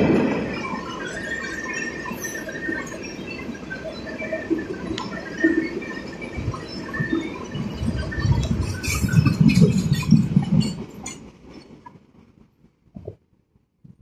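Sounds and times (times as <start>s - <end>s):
train cars rolling on steel wheels: 0.0s - 13.6s.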